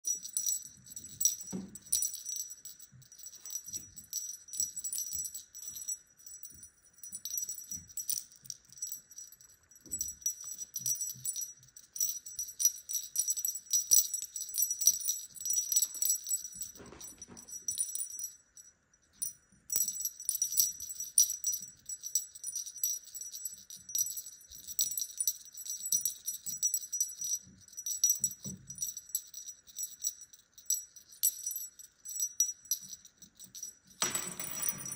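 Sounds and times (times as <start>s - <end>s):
small metal bell jingling: 0.0s - 34.9s.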